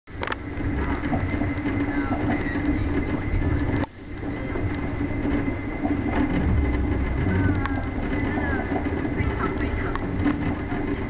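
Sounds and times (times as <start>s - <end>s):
constant hum: 0.1s - 11.0s
train wheels rumbling on rail: 0.1s - 11.0s.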